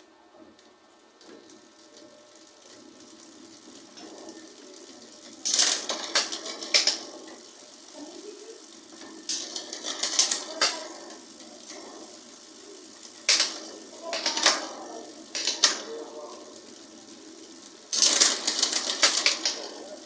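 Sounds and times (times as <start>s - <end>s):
bicycle chain clicking and rattling: 0.9s - 20.0s.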